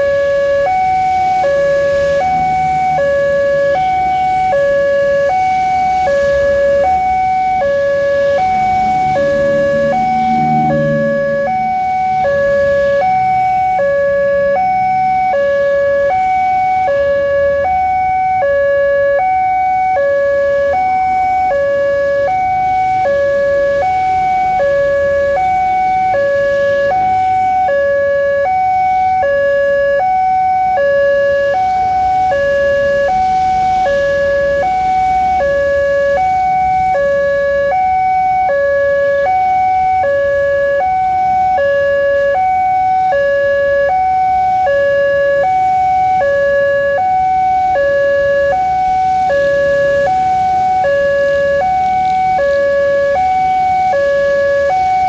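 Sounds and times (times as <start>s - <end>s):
level crossing alarm two-tone: 0.0s - 55.0s.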